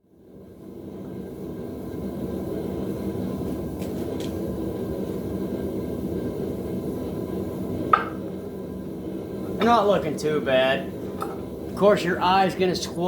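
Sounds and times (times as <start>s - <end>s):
forge roaring: 0.2s - 13.0s.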